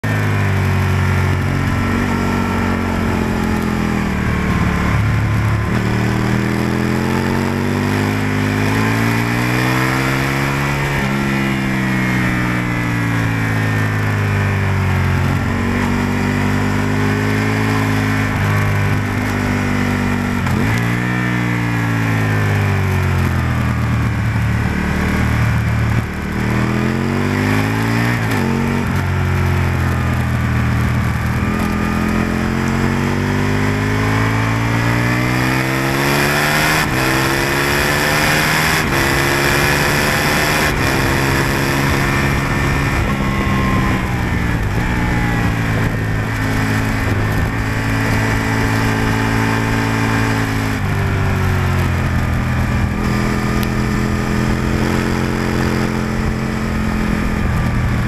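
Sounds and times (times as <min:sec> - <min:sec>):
motorcycle engine at speed: 0:00.0 - 0:58.0
rush of wind: 0:00.0 - 0:58.0.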